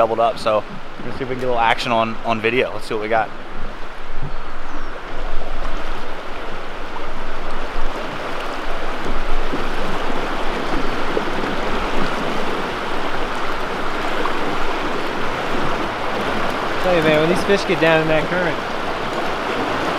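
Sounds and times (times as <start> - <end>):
river rushing over rocks: 1.9 - 19.9.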